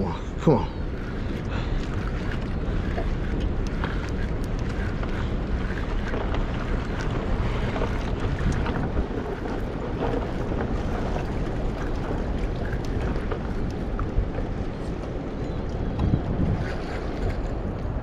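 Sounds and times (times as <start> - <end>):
fast-flowing river water: 0.0 - 18.0
wind buffeting microphone: 0.0 - 18.0.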